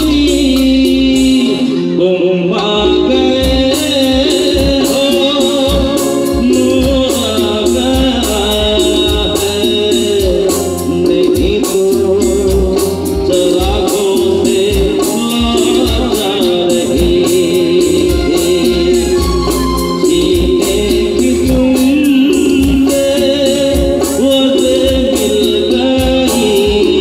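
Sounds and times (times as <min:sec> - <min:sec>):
percussion beat: 0:00.0 - 0:01.7, 0:02.6 - 0:27.0
electric guitar: 0:00.0 - 0:27.0
keyboards: 0:00.0 - 0:27.0
man singing: 0:00.0 - 0:27.0.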